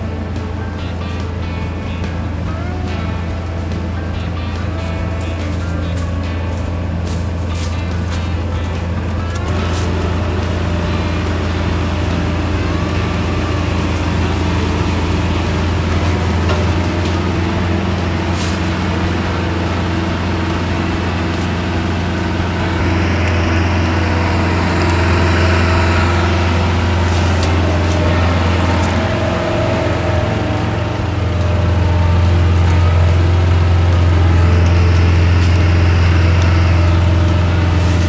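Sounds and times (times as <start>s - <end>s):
harvester deep mechanical hum: 0.0s - 38.0s.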